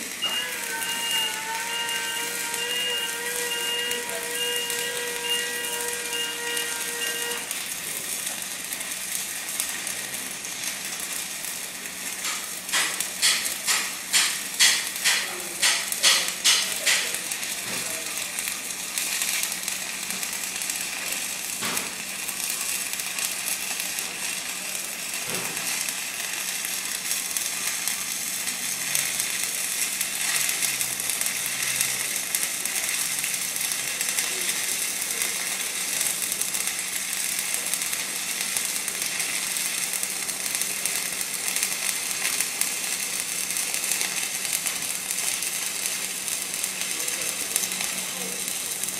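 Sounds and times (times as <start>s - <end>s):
louder welding arc pulses: 0.0s - 48.9s
welding arc crackling and sizzling: 0.0s - 48.9s.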